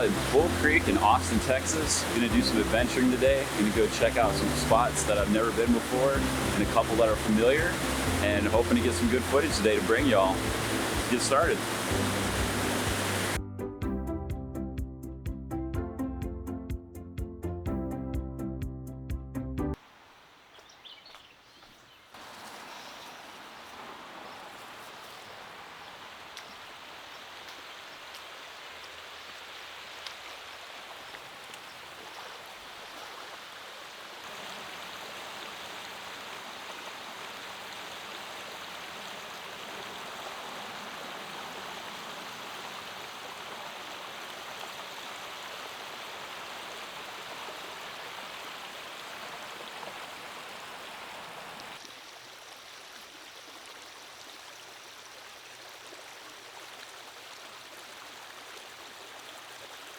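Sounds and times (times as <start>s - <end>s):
creek water flowing: 0.0s - 13.4s, 19.7s - 59.9s.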